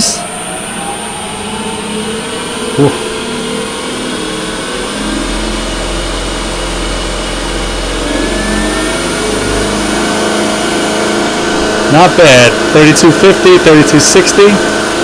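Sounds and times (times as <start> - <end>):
wood lathe motor whining: 0.0 - 15.0.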